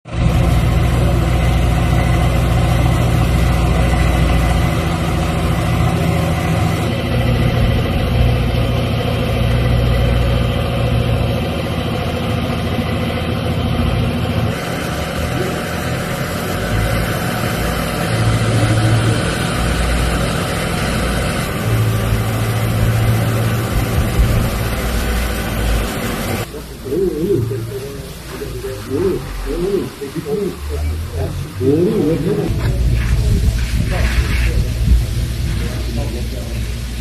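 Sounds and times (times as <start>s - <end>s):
vehicle engine idling: 0.1s - 37.0s.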